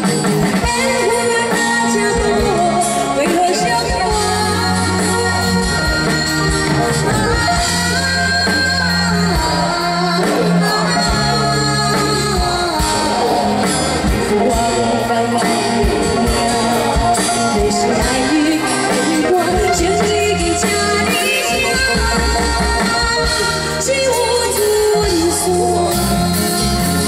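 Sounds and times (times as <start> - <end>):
live band playing pop ballad: 0.0 - 27.0
woman singing: 0.0 - 27.0.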